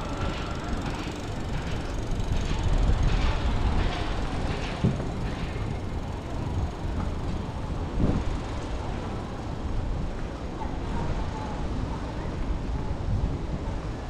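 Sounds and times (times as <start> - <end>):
faint voices of people passing: 0.0 - 14.0.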